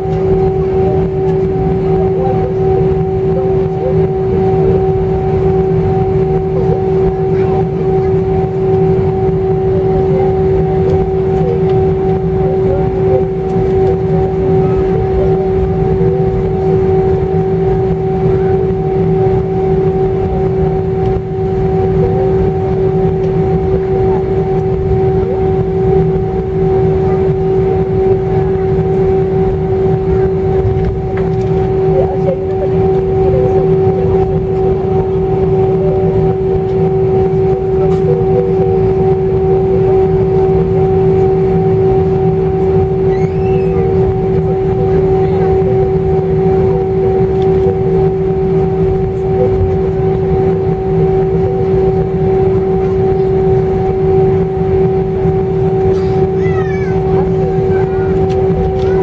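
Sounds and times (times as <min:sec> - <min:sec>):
aircraft cabin rumble and hum: 0:00.0 - 0:59.0.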